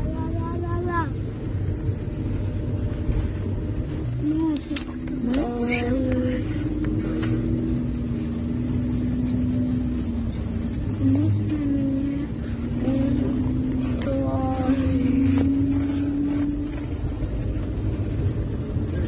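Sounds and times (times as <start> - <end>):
bus rumble: 0.0 - 19.0
droning tone sliding in pitch: 1.5 - 19.0.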